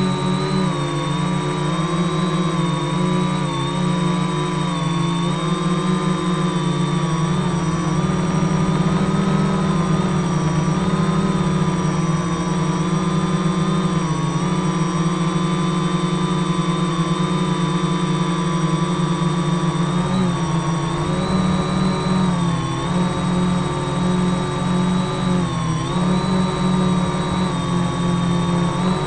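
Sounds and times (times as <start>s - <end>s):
propeller buzz: 0.0s - 29.0s
quadcopter motors whining: 0.0s - 29.0s.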